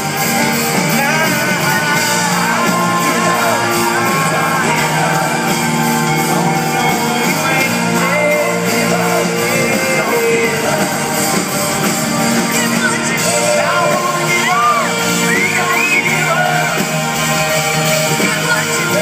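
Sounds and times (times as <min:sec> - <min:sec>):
lead singer singing: 0:00.0 - 0:19.0
live rock band playing: 0:00.0 - 0:19.0.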